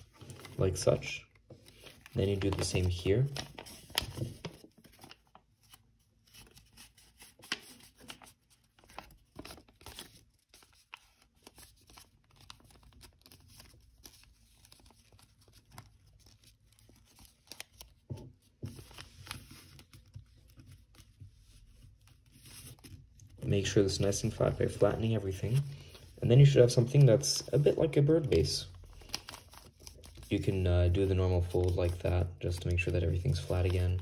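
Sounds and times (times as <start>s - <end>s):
paper crinkling while folded: 0.0s - 34.0s.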